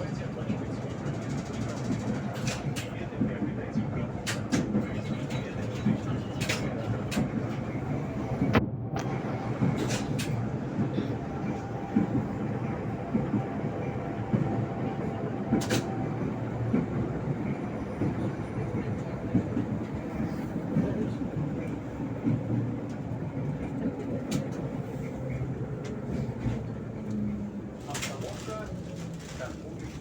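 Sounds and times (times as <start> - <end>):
tram rumbling on rails: 0.0 - 30.0.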